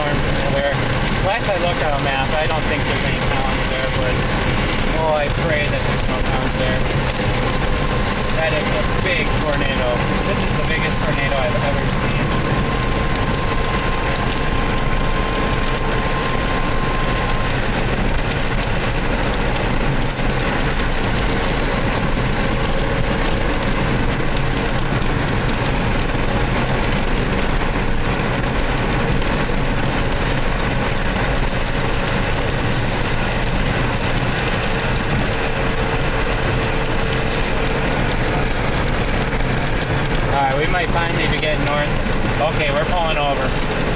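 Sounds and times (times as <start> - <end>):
wind noise: 0.0 - 42.8
car engine: 0.0 - 43.9
car road noise: 0.0 - 43.9.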